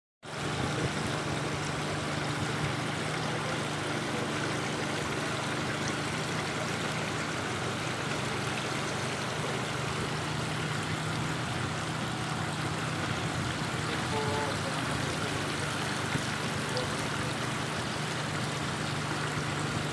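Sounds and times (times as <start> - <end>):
fountain water splashing: 0.2 - 19.9.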